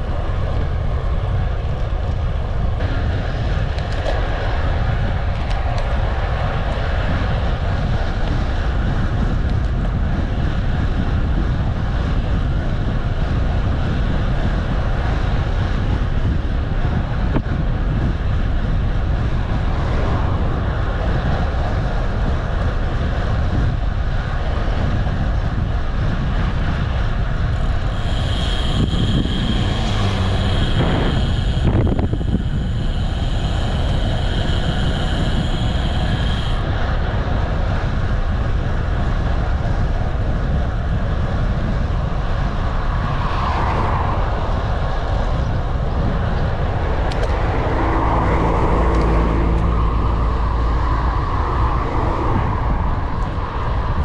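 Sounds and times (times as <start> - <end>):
high steady whine: 0.0 - 54.0
wind rushing on microphone: 0.0 - 54.0.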